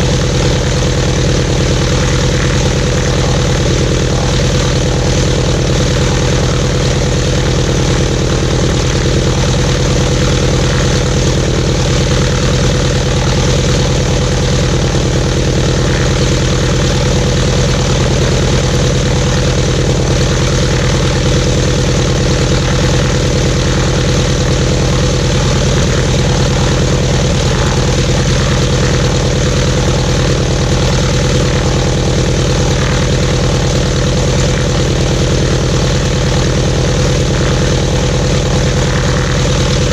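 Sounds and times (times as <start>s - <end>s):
radial aircraft engine idling: 0.0s - 39.9s.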